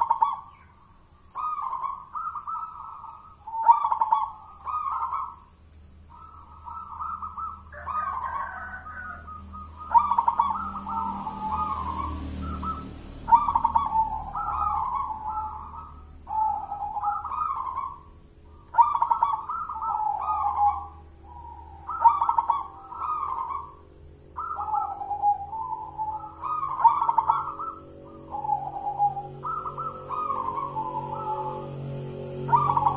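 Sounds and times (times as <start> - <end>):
dove cooing: 0.0 - 32.9.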